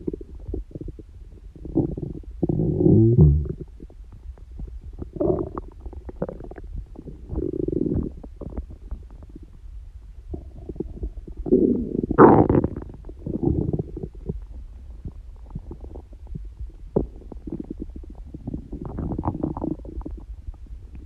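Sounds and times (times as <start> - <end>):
stomach growling: 0.0 - 9.6, 10.3 - 21.0.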